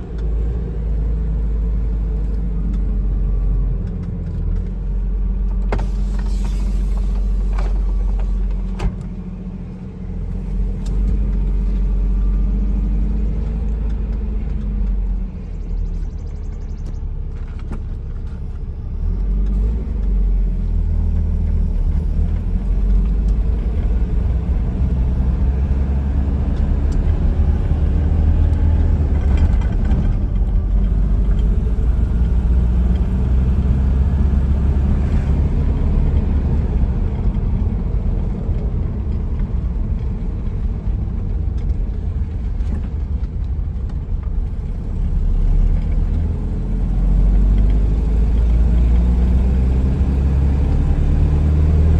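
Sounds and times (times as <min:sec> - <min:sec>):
pickup engine rumbling: 0:00.0 - 0:51.9.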